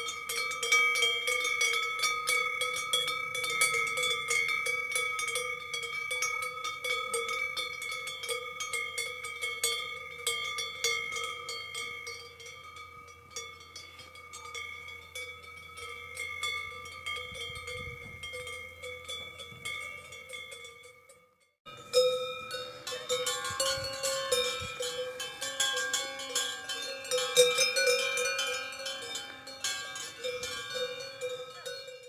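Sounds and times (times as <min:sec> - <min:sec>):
cowbells clanking: 0:00.0 - 0:32.0.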